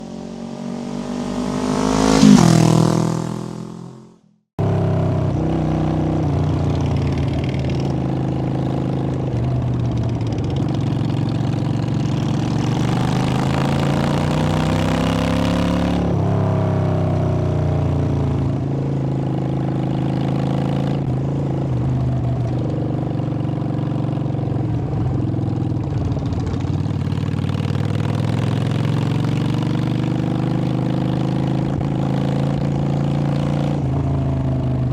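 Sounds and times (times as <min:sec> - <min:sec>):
motorcycle engine accelerating: 0:00.0 - 0:34.9
motorcycle passing: 0:00.0 - 0:34.9.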